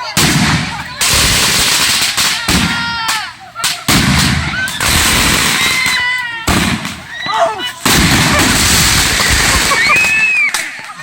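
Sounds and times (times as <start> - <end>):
fireworks blasts with hissing crackle: 0.0 - 11.0.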